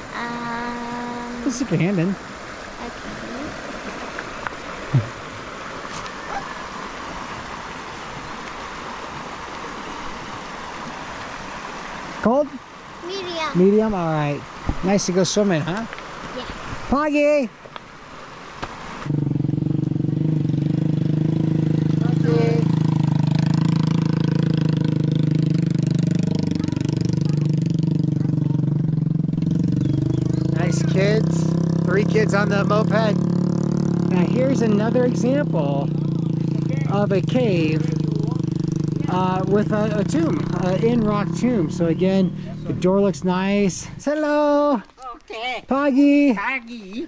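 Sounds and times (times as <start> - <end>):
stream rushing over stones: 0.0 - 20.6, 21.4 - 47.0.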